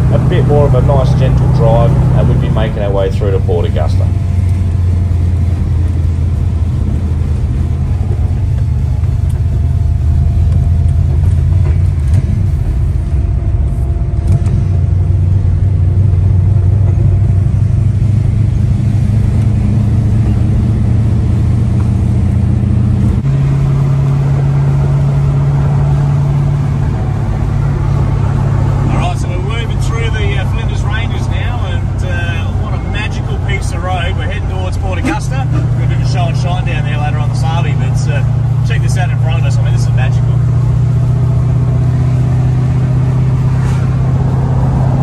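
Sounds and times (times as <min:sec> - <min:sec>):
car engine droning: 0:00.0 - 0:45.0.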